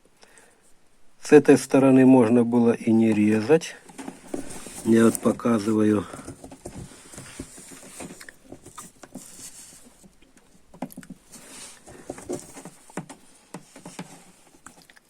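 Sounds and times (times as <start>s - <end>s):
hands handling a cable: 2.9s - 15.0s.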